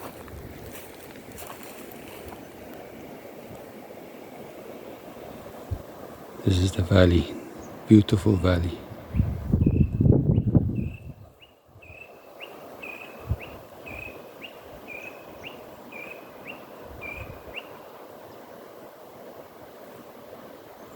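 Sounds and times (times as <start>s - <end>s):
wind hiss: 0.0s - 20.9s.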